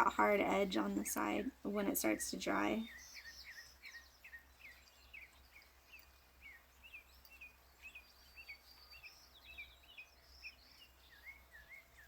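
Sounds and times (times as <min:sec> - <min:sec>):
bird chirping: 0:00.0 - 0:12.0
low steady hum: 0:00.0 - 0:12.0.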